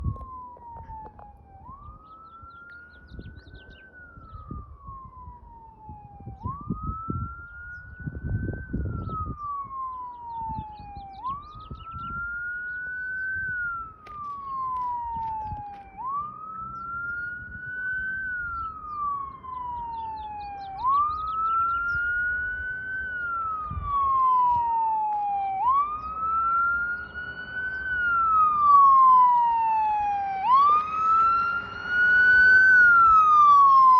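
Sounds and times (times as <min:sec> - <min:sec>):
emergency vehicle siren wailing: 0:00.0 - 0:33.9
passing traffic rumble: 0:00.0 - 0:33.9.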